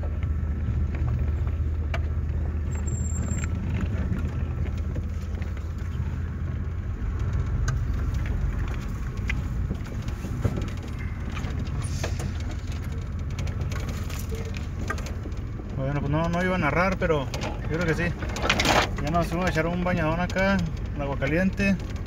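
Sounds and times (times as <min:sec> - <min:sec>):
engine and road rumble: 0:00.0 - 0:22.0
knocks and rattles: 0:03.3 - 0:22.0.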